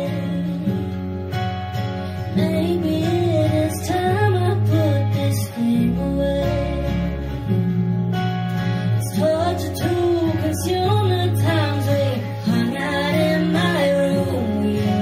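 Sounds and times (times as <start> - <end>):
woman singing: 0.0 - 1.3, 2.1 - 8.0, 8.8 - 15.0
acoustic guitars: 0.0 - 15.0.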